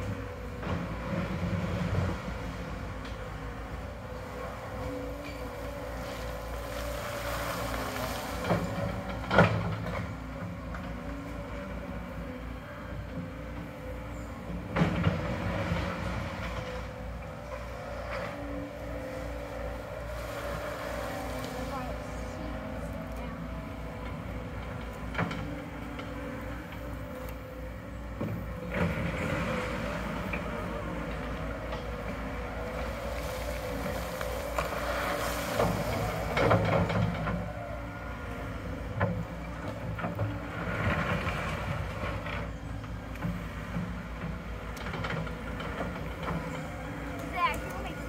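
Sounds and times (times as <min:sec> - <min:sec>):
gravel sliding and scraping: 0:00.0 - 0:11.8, 0:14.0 - 0:48.0
diesel engine running: 0:00.0 - 0:48.0.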